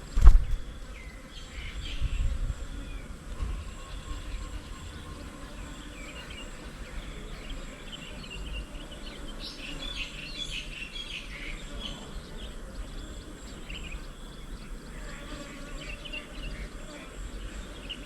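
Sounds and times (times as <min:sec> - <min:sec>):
birds chirping: 0:00.0 - 0:18.0
high insect drone: 0:00.0 - 0:18.0.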